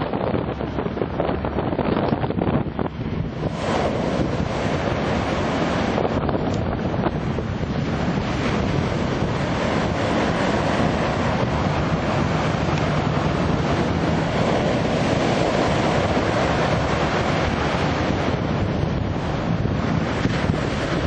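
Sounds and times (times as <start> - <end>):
turboprop engines droning: 0.0 - 21.0
wind buffeting microphone: 0.0 - 21.0.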